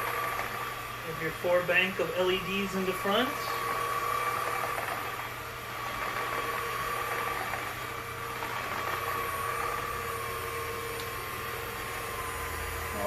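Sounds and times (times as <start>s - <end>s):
stick vacuum motor whine: 0.0s - 13.0s
vacuum airflow noise: 0.0s - 13.0s.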